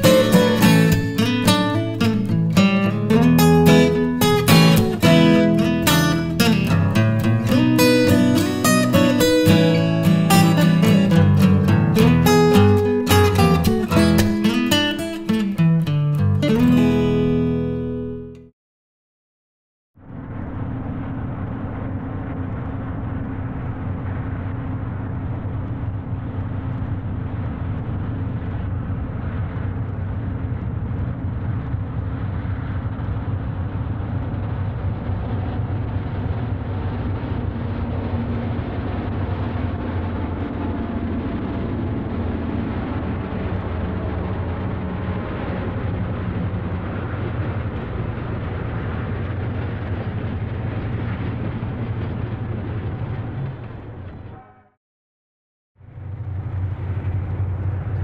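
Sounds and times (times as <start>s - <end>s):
diesel locomotive engines droning: 0.0s - 18.1s, 20.0s - 54.8s, 55.8s - 58.0s.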